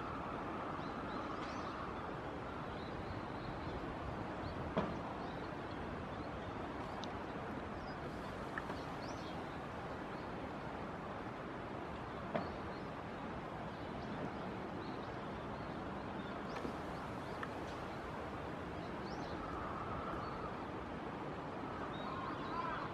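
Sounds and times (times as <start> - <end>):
stream water flowing: 0.0 - 22.9.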